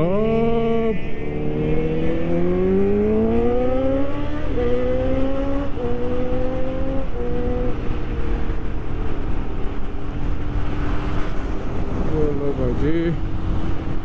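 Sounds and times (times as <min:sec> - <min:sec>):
motorcycle engine accelerating: 0:00.0 - 0:12.4
road and wind noise: 0:00.0 - 0:14.0.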